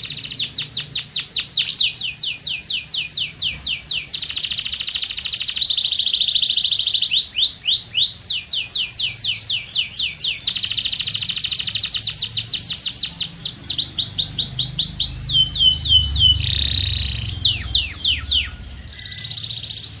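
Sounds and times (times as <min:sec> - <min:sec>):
buzzy rattling bird phrase: 0:00.0 - 0:20.0
canary singing: 0:00.0 - 0:20.0.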